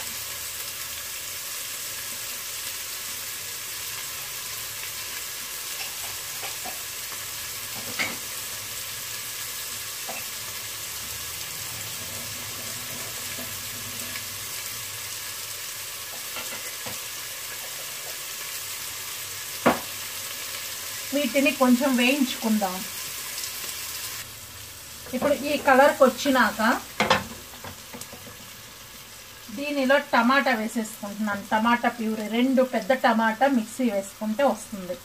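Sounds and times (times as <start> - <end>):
onions sizzling in hot oil: 0.0 - 35.0.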